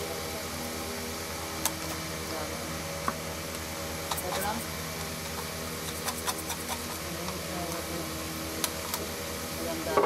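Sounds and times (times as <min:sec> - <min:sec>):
low pulsing machine hum: 0:00.0 - 0:10.0.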